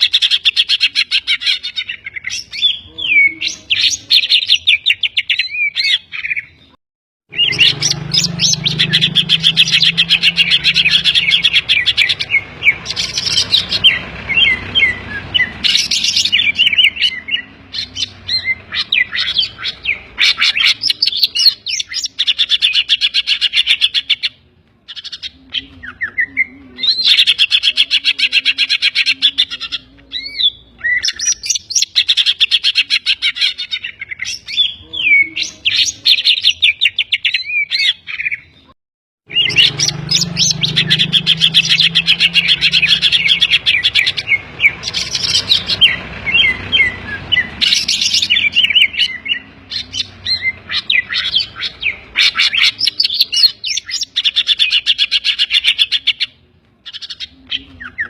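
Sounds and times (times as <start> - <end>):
bird singing trills and chatter: 0.0 - 38.7, 39.3 - 58.0.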